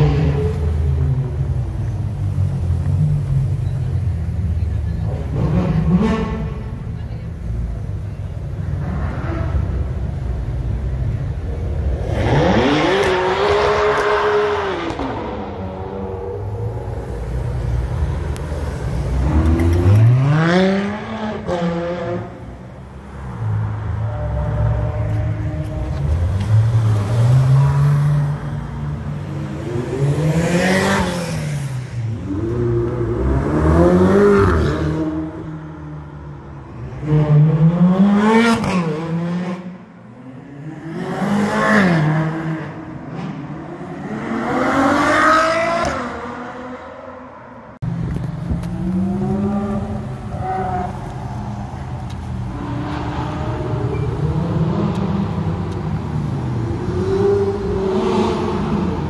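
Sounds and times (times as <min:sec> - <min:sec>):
sports car engines revving: 0:00.0 - 0:59.0.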